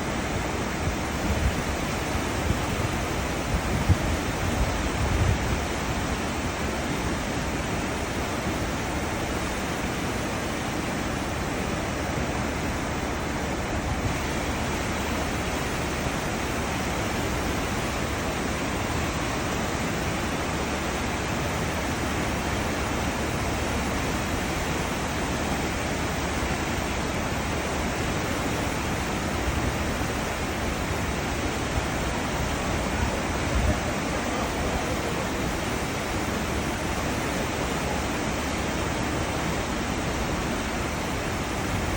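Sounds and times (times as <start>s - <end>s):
churning seawater rushing: 0.0s - 41.9s.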